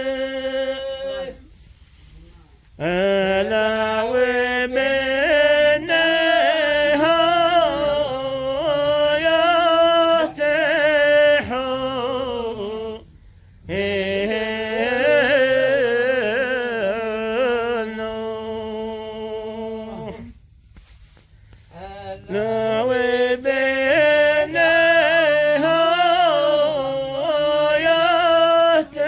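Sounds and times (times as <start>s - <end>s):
solo singer chanting: 0.0s - 1.7s, 2.8s - 20.4s, 21.6s - 29.0s.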